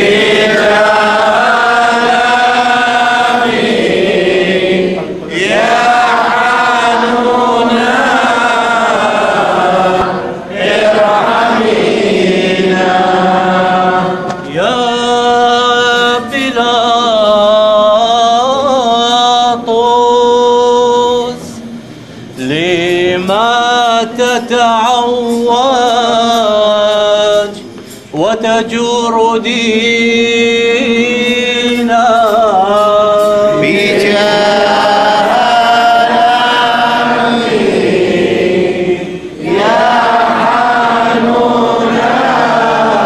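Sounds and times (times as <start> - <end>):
liturgical chanting: 0.0 - 43.0.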